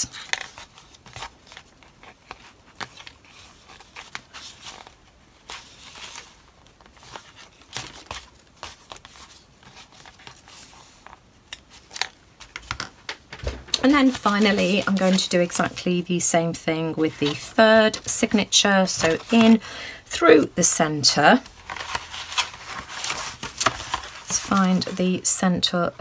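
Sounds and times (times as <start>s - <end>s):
paper rustling: 0.0s - 25.6s.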